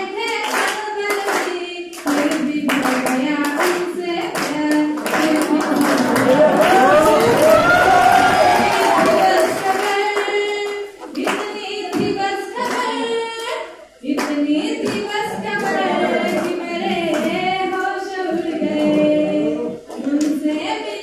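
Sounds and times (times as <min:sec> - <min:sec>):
hand claps: 0:00.0 - 0:18.0
woman singing into a microphone: 0:00.0 - 0:21.0.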